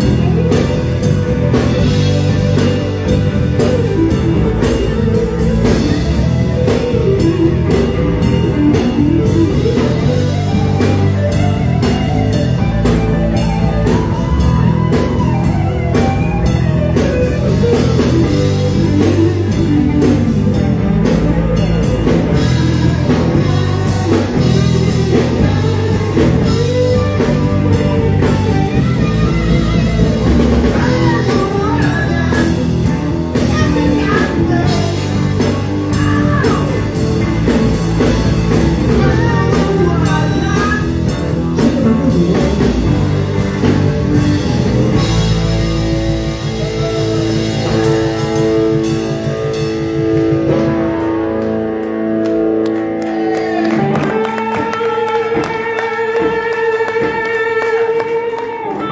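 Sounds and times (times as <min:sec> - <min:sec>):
drum kit beat: 0:00.0 - 0:58.9
guitars: 0:00.0 - 0:58.9.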